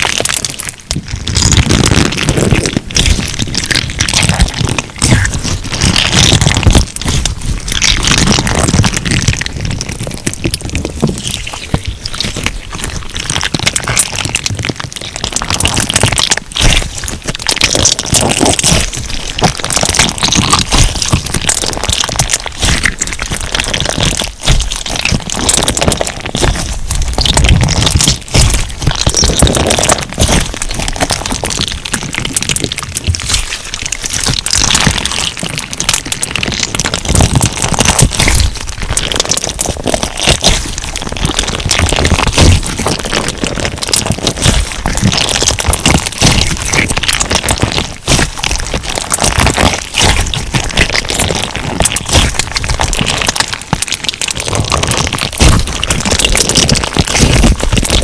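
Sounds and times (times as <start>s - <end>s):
crunchy slime crackling: 0.0s - 58.0s.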